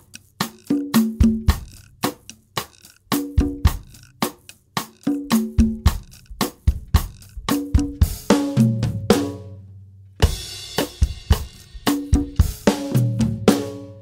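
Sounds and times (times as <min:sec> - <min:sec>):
drum kit groove: 0:00.0 - 0:14.0.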